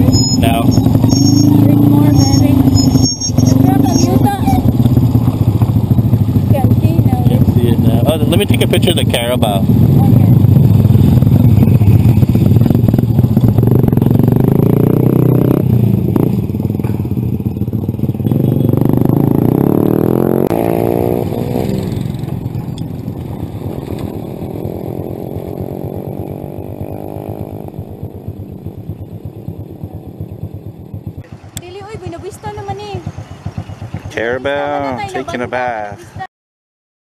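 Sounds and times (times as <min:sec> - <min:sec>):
motorcycle engine running: 0:00.0 - 0:36.3.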